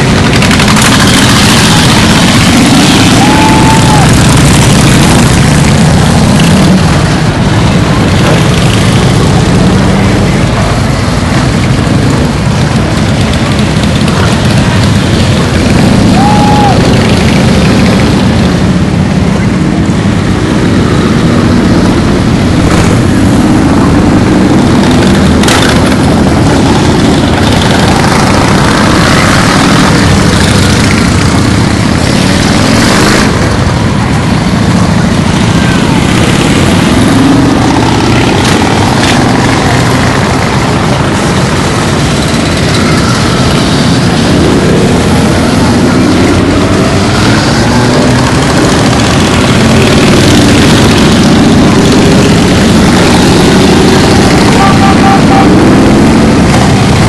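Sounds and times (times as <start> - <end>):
motorcycles riding past: 0.0 - 57.0.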